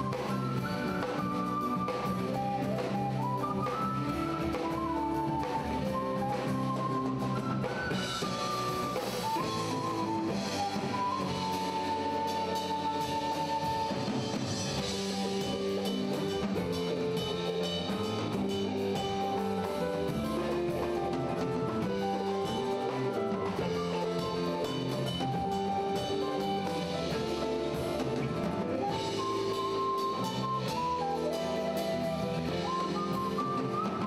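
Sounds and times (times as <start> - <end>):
bass guitar: 0.0 - 34.0
drum kit with timbales: 0.0 - 34.0
electric guitar: 0.0 - 34.0
flute melody: 0.0 - 34.0.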